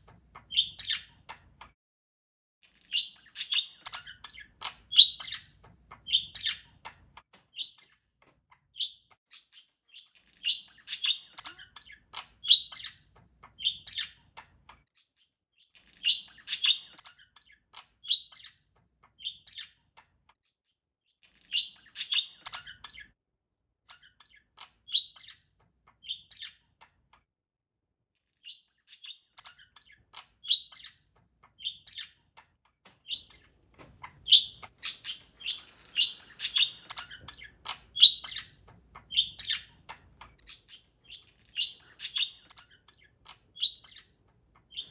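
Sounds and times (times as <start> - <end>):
parakeet chirping: 0.1 - 1.5, 2.8 - 8.0, 8.8 - 14.6, 15.8 - 19.8, 21.3 - 23.1, 23.9 - 27.0, 28.4 - 32.4, 33.0 - 44.9.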